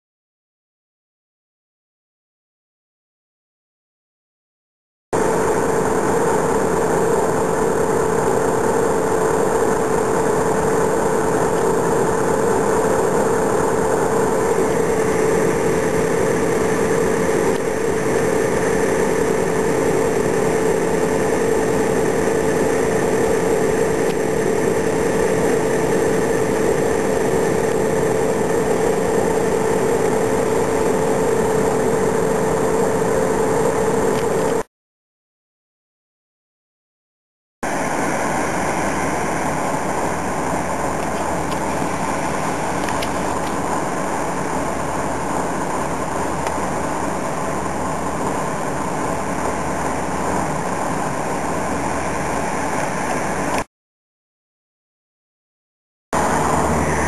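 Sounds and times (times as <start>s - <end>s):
diesel locomotive idling: 5.2s - 34.6s, 37.7s - 53.6s, 56.2s - 57.0s.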